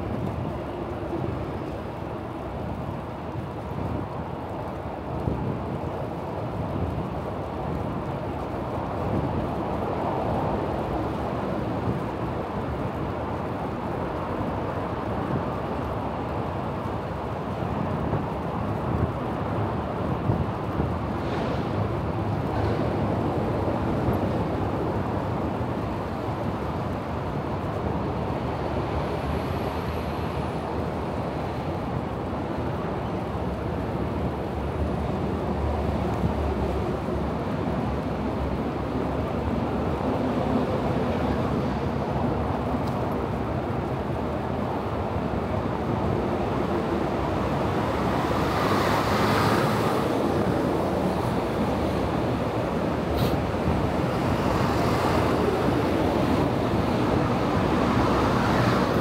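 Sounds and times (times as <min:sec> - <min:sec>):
bicycle road noise: 0:00.0 - 0:59.0
rushing wind: 0:00.0 - 0:59.0.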